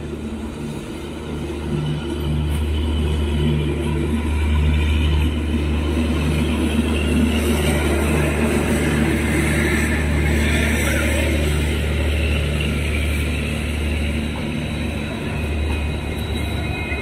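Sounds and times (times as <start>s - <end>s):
pulsing hum: 0.0s - 17.0s
train rumble inside coach: 0.0s - 17.0s.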